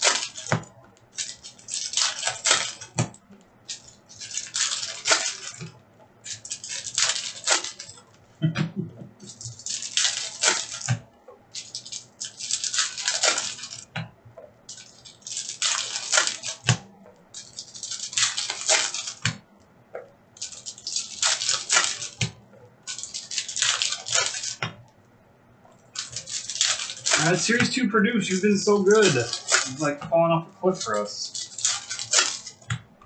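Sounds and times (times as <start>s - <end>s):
foil wrappers crinkling and tearing: 0.0s - 8.0s, 9.2s - 14.0s, 14.7s - 19.4s, 20.3s - 24.6s, 25.9s - 32.8s.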